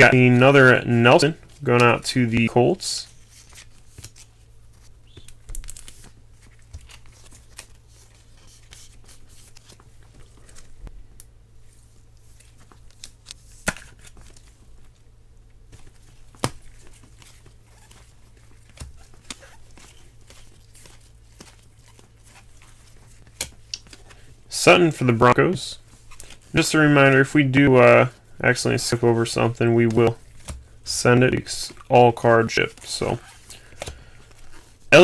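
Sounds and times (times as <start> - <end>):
low steady hum: 0.0 - 35.0
trading cards rustling and sliding: 0.4 - 10.9, 11.6 - 14.9, 15.7 - 35.0.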